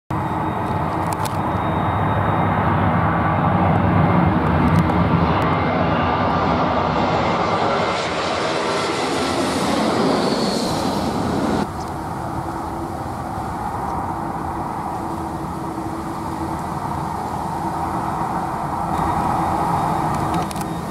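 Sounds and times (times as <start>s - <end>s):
high jet whine: 0.1s - 20.9s
jet engines roaring: 0.1s - 20.9s.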